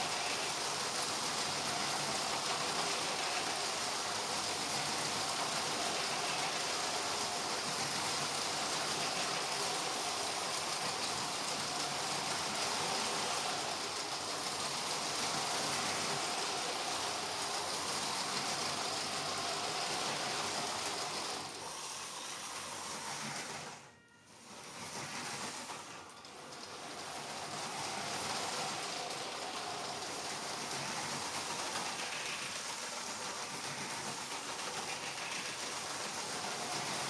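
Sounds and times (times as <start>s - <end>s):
toy train motor whirring on track: 0.0s - 37.0s.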